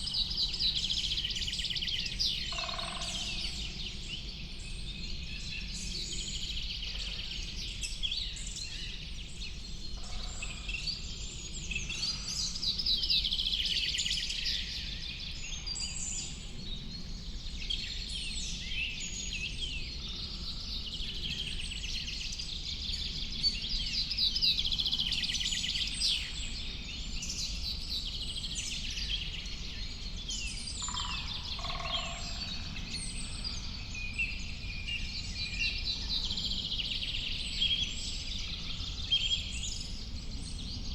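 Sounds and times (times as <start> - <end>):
birds singing and calling: 0.0 - 40.9.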